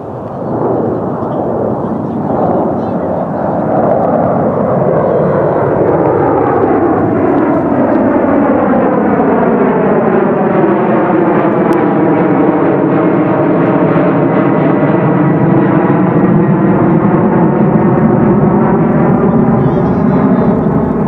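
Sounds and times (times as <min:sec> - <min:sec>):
jet engines roaring overhead: 0:00.0 - 0:21.0.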